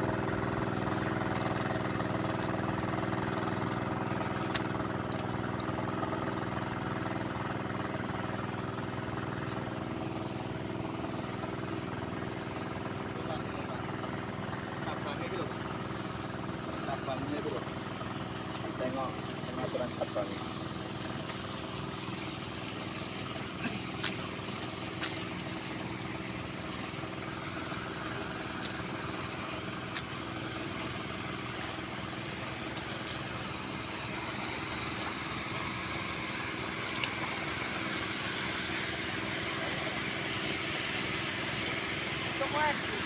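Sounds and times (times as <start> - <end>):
small petrol engine running: 0.0 - 43.0.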